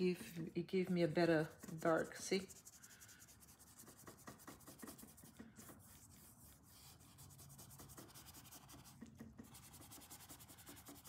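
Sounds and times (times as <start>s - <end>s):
paintbrush rubbing on paper: 0.0s - 11.0s.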